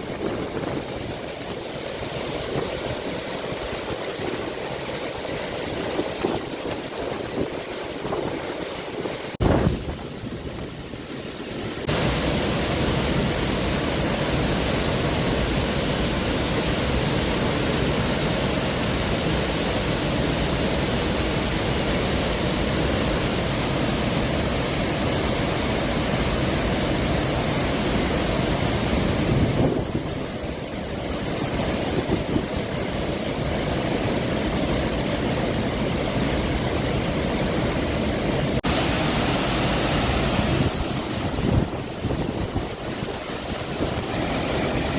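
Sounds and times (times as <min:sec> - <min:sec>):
roar of rushing water: 0:00.0 - 0:44.9.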